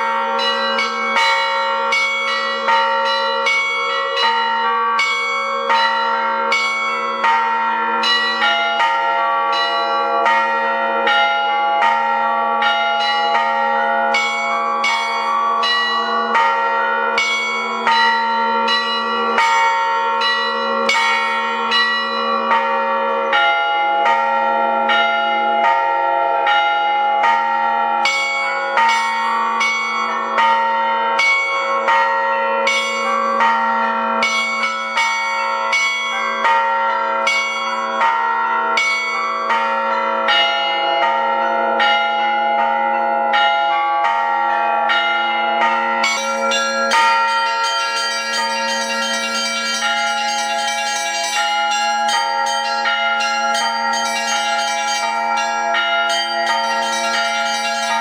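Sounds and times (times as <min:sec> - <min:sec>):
church bells ringing rapidly: 0:00.0 - 0:58.0.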